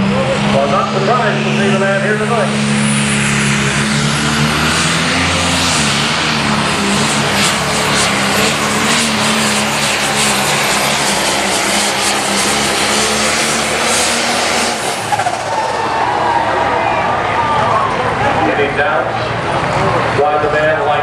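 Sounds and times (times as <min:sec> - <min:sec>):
tractor engine roaring under load: 0:00.0 - 0:21.0.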